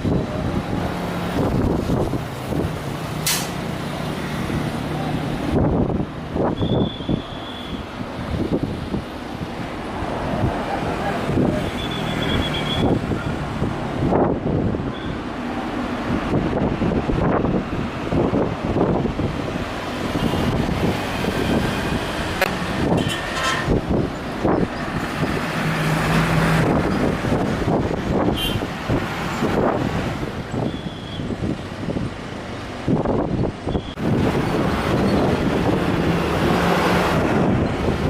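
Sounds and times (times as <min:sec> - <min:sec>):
loud engine rumble: 0:00.0 - 0:38.0.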